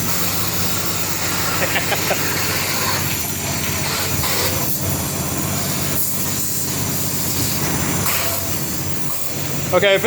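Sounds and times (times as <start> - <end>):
pump humming: 0.0 - 10.0
water jet hissing: 0.0 - 10.0.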